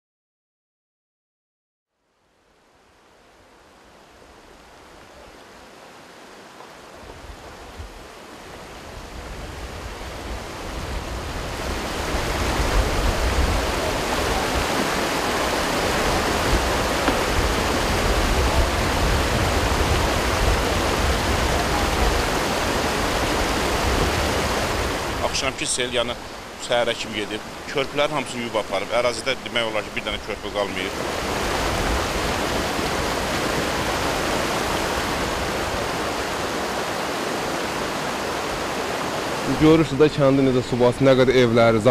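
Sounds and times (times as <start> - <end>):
rushing floodwater: 2.5 - 41.9.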